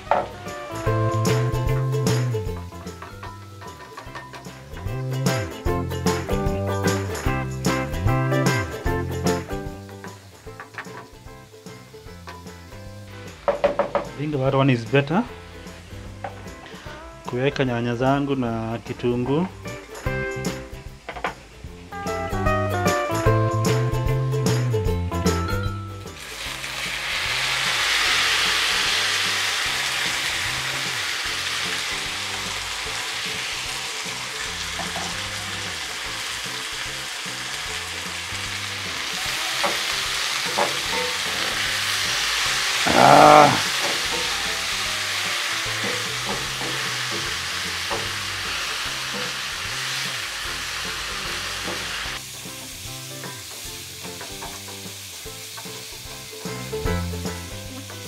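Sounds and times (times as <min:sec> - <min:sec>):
vegetables sizzling in pan: 0:00.0 - 0:17.3, 0:19.5 - 0:24.8, 0:25.5 - 0:58.0.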